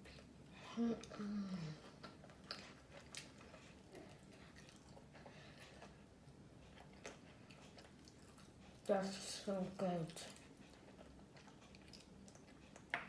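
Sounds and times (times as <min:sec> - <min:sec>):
person chewing: 0:01.0 - 0:08.9, 0:10.1 - 0:13.0.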